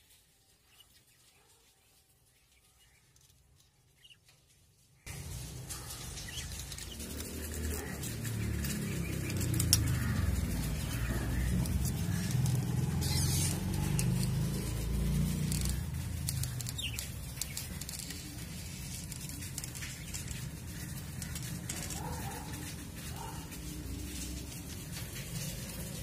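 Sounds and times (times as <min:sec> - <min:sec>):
handling noise: 0:05.1 - 0:26.0.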